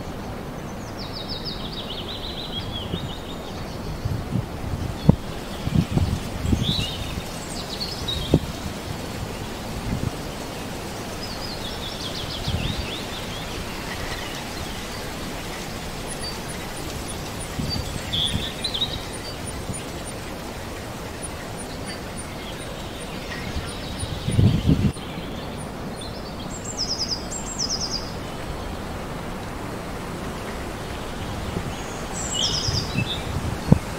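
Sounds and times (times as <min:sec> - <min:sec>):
small birds chirping: 0:00.0 - 0:33.9
steady wind hiss: 0:00.0 - 0:33.9
wind gusts hitting microphone: 0:00.0 - 0:33.9.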